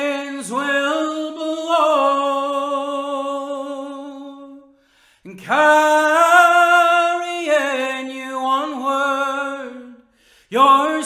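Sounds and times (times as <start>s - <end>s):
man singing unaccompanied: 0.0s - 4.7s, 5.3s - 11.0s.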